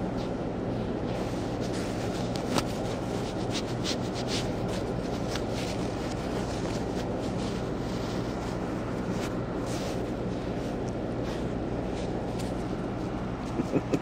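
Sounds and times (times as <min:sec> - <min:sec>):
low background hum: 0:00.0 - 0:14.0
soft rustling of fur: 0:00.0 - 0:14.0.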